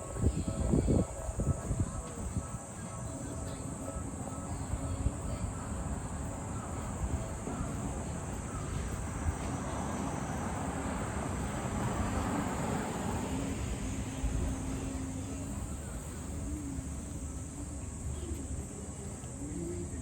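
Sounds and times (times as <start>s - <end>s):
insects singing: 0.0s - 20.0s.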